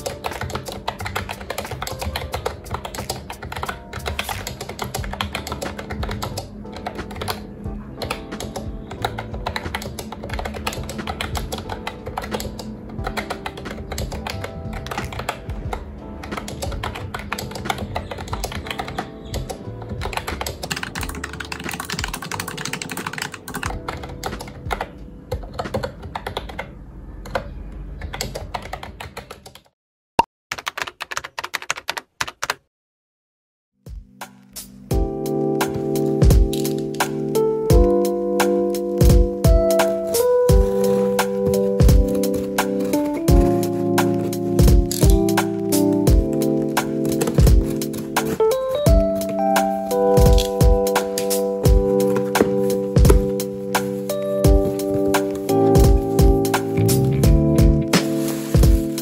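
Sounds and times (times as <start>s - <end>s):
soft background music: 0.0s - 29.1s, 33.9s - 59.0s
fast keyboard typing: 0.0s - 29.8s, 30.5s - 32.7s, 37.7s - 59.0s.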